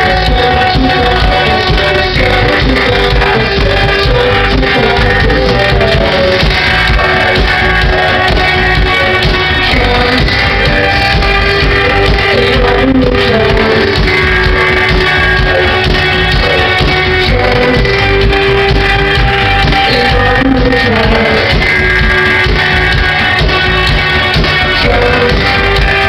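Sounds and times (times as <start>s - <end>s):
drums: 0.0s - 26.0s
electric guitar: 0.0s - 26.0s
person singing: 0.0s - 26.0s.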